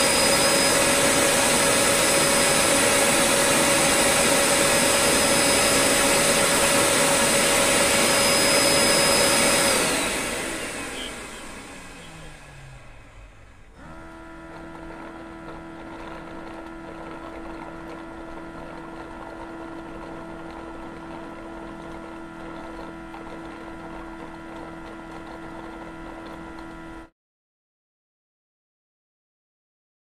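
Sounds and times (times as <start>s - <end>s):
motor humming and throbbing: 0.0s - 27.1s.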